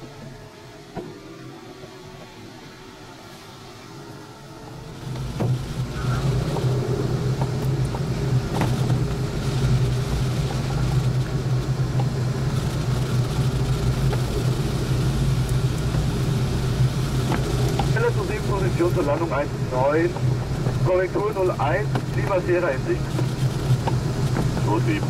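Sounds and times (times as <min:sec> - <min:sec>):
air rushing past canopy: 0:00.0 - 0:25.0.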